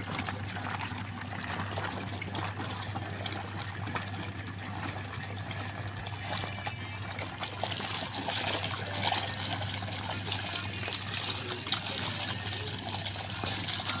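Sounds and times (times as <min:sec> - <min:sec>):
washing machine hum: 0:00.0 - 0:14.0
water splashing in washing machine: 0:00.0 - 0:14.0.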